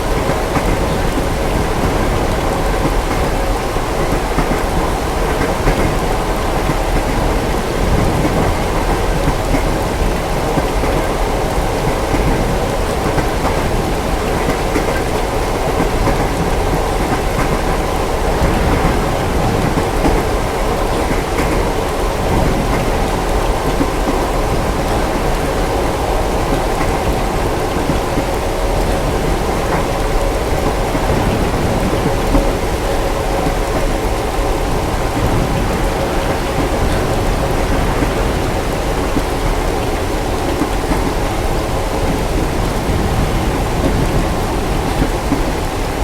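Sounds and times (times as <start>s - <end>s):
heavy rain: 0.0s - 46.0s
thunder rumbling: 0.0s - 46.0s
train running: 0.0s - 46.0s.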